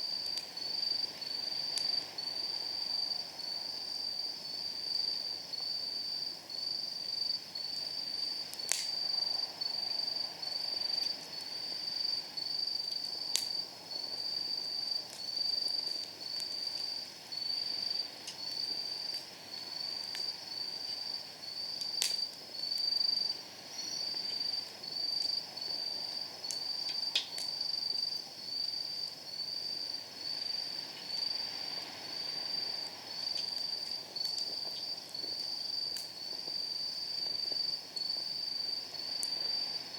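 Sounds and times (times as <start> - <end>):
campfire crackling pops: 0.0 - 2.5, 7.3 - 29.2, 32.0 - 39.9
night insects chirping: 0.0 - 39.9.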